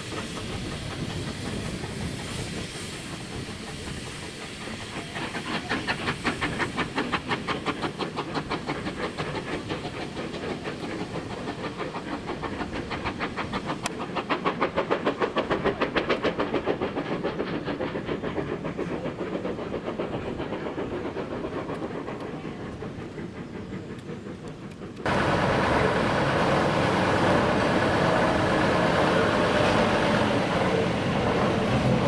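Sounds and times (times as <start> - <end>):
steam locomotive chuffing: 0.0 - 32.0.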